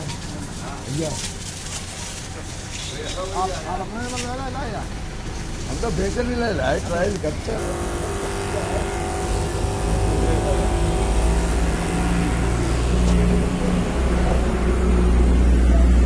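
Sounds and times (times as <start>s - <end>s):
electric water pump humming: 0.0s - 16.0s.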